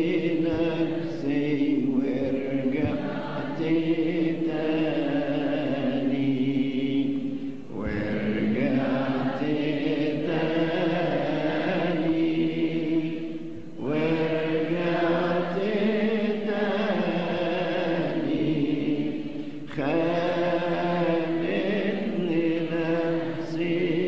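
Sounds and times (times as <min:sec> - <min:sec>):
man chanting a hymn: 0:00.0 - 0:24.0.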